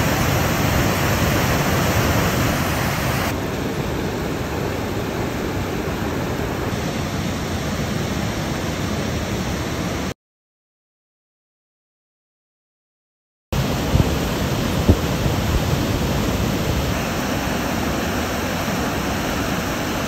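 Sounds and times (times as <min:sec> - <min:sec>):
whitewater rushing: 0:00.0 - 0:10.1, 0:13.6 - 0:20.0.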